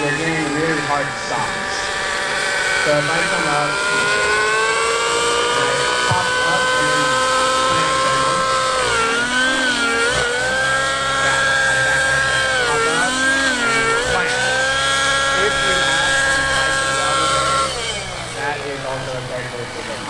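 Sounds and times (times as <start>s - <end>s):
rc helicopter engine whine: 0.0s - 20.0s.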